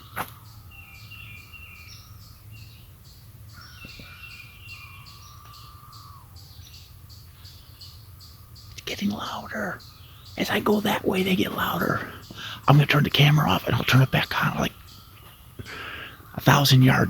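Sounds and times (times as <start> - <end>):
birds chirping: 0.0 - 17.0
cicadas droning: 0.0 - 17.0.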